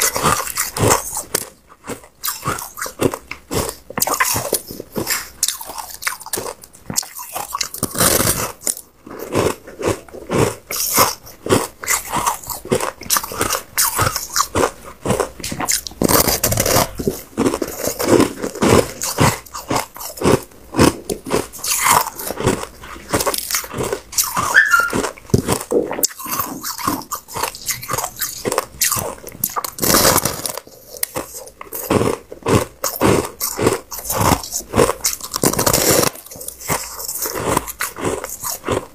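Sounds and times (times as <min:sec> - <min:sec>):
crunching and chewing shaved ice: 0:00.0 - 0:38.9.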